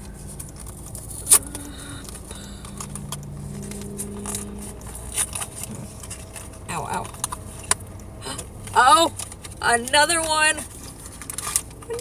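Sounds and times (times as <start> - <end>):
packaging rustling: 0.0 - 9.6, 10.6 - 12.0
low hum: 0.0 - 9.8.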